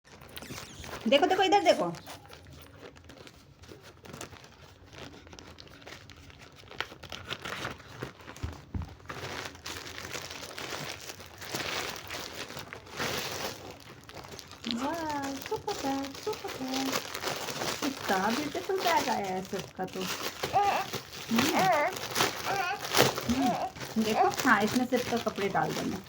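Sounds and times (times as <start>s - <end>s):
packaging crinkling and tearing: 0.1s - 26.0s.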